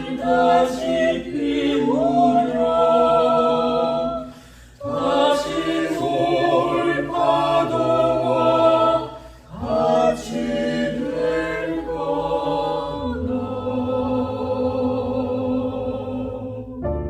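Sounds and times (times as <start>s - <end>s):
vocal ensemble singing in harmony: 0.0s - 17.0s.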